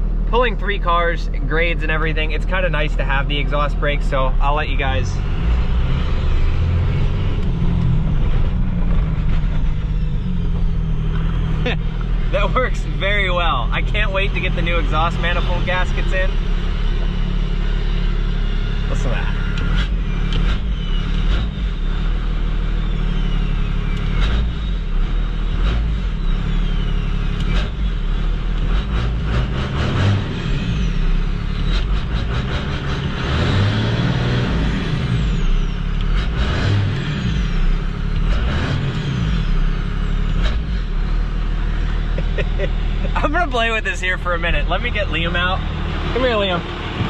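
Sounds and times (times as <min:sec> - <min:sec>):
diesel engine with exhaust brake: 0:00.0 - 0:47.0.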